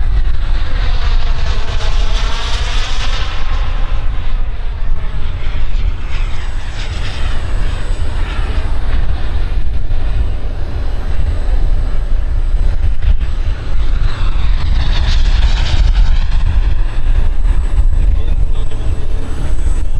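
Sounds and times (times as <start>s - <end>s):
heavy low rumble: 0.0s - 19.9s.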